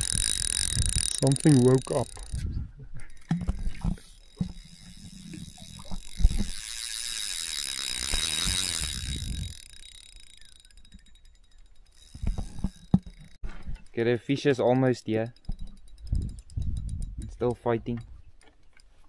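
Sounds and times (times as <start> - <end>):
fishing reel ratcheting: 0.0 - 2.5, 3.1 - 18.0.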